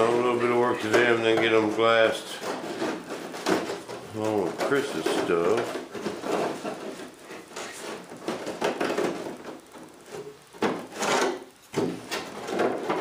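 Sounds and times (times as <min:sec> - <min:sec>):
wood rubbing against fiberglass: 0:00.0 - 0:13.0.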